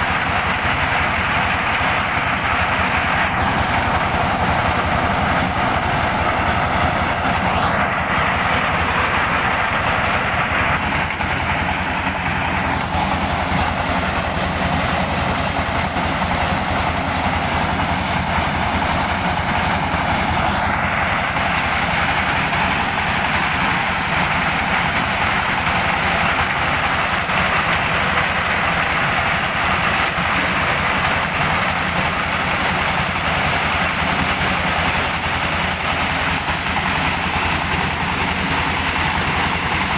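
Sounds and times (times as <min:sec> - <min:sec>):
corn sheller clattering: 0:00.0 - 0:39.9
diesel engine drone: 0:00.0 - 0:39.9.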